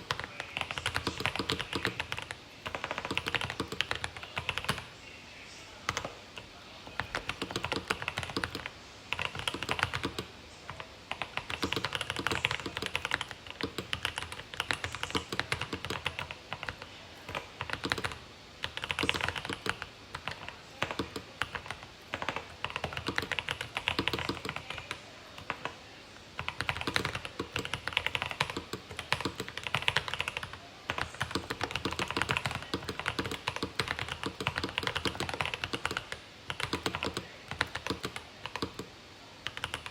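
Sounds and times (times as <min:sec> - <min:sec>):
mechanical keyboard typing: 0:00.0 - 0:04.9, 0:05.9 - 0:39.9.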